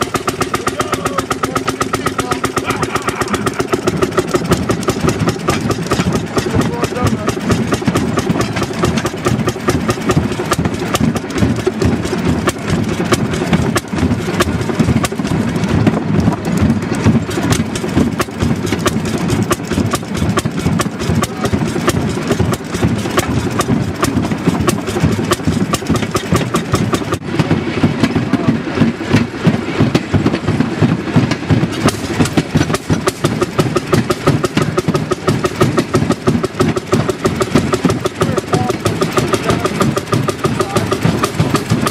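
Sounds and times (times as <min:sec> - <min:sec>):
engine firing in rapid bangs: 0:00.0 - 0:41.9
rail car rattling: 0:00.0 - 0:41.9.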